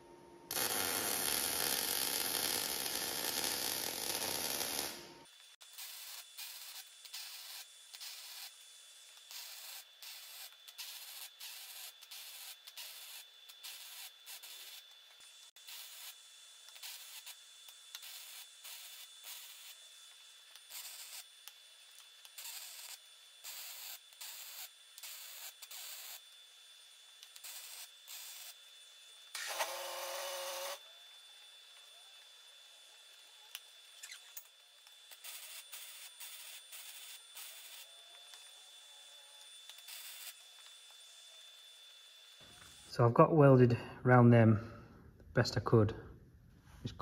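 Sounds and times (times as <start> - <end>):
loud sound with steady hum: 0.0 - 46.3
welding crackle: 0.5 - 43.0.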